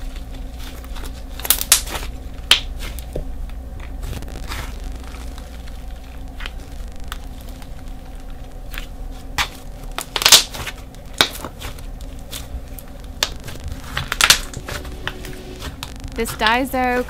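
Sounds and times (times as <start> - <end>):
slime popping and crackling: 0.0 - 14.9, 15.6 - 17.0.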